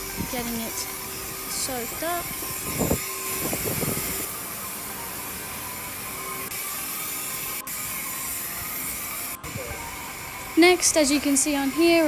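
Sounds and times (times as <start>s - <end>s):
spray wand hissing: 0.0s - 12.0s.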